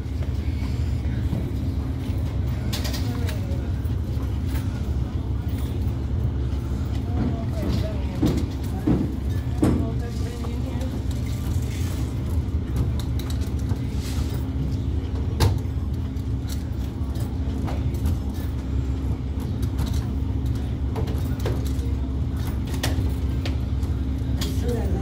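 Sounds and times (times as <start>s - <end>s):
washers and dryers humming: 0.0s - 25.0s.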